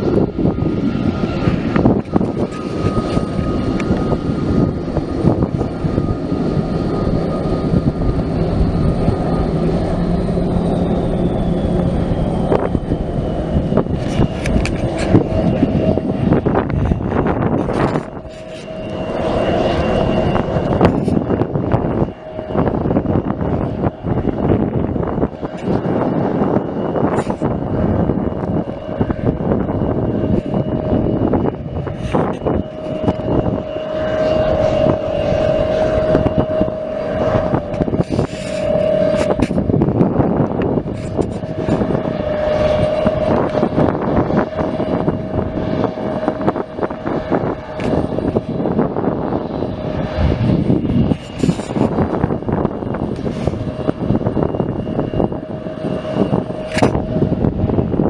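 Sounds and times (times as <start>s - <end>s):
airplane engines roaring: 0.0s - 58.0s.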